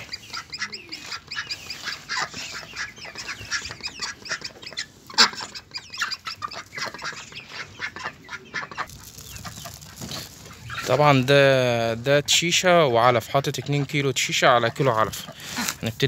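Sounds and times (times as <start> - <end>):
ducks and hens calling: 0.0 - 16.0.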